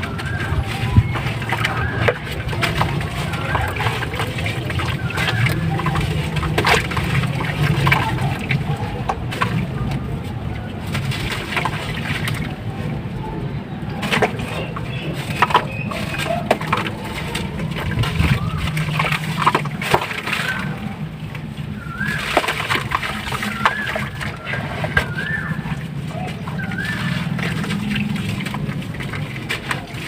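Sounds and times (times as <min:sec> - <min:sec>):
slabs crumbling in water: 0:00.0 - 0:12.6, 0:14.0 - 0:30.0
small splashes: 0:00.0 - 0:30.0.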